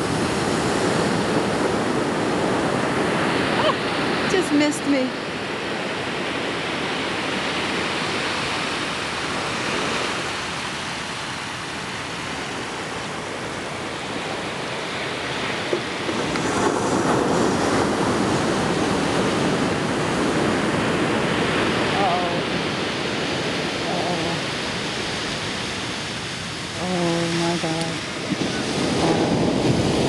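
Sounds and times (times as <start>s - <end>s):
water washing over sand: 0.0s - 30.0s
waves breaking: 0.0s - 30.0s.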